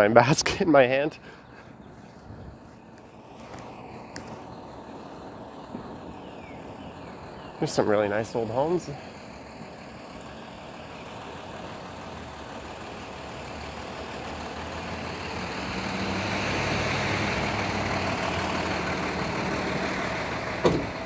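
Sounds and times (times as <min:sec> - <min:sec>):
vehicle engine and tyres passing: 0:00.0 - 0:21.0.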